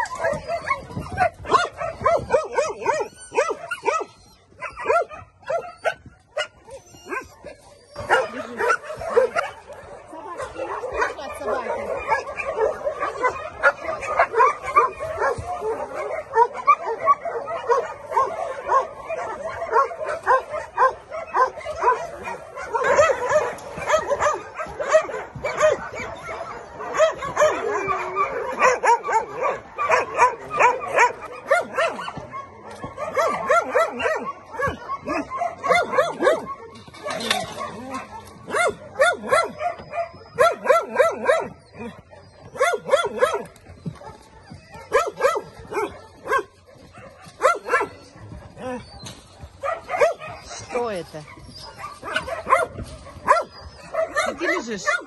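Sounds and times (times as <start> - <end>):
dogs barking and yapping: 0.0 - 55.0.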